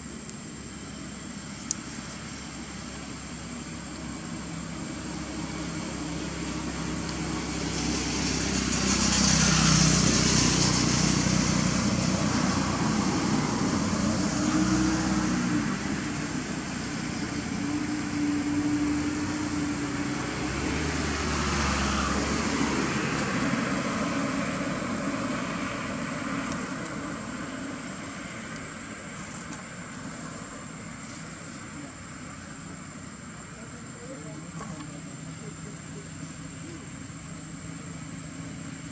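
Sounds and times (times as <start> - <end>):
traffic rumble and hiss: 0.0 - 38.9.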